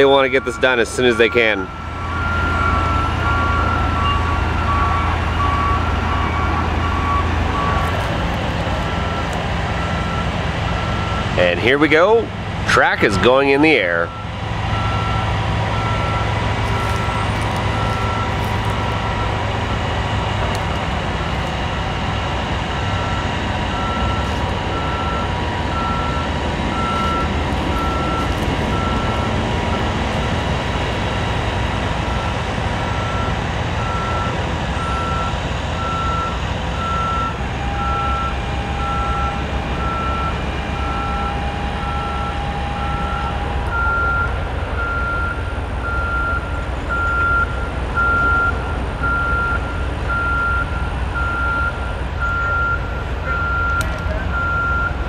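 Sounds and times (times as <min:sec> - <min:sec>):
engine rumble: 0:00.0 - 0:55.0
machinery warning alarm beeping: 0:00.0 - 0:55.0.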